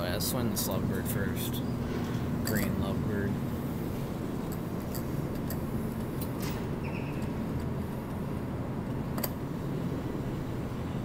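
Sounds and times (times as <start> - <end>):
arcade machine hum: 0.0 - 11.0.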